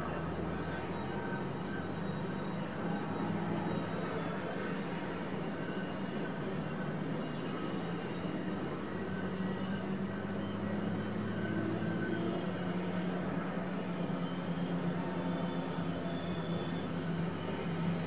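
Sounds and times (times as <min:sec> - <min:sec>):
faint high-pitched tones: 0:00.0 - 0:18.0.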